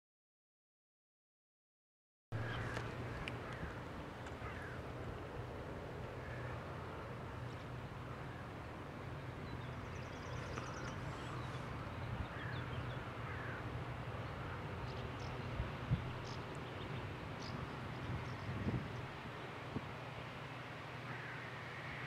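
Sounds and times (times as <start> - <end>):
birds calling: 2.4 - 22.0
distant freight train rumble: 2.4 - 22.0.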